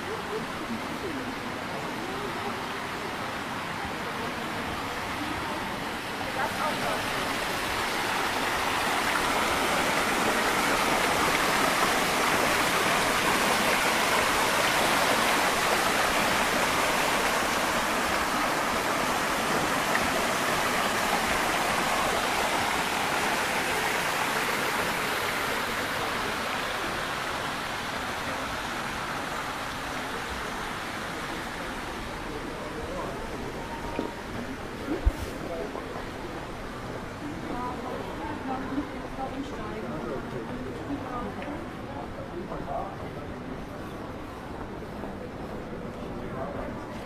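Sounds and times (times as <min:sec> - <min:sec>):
fountain water splashing into pool: 0:00.0 - 0:42.5.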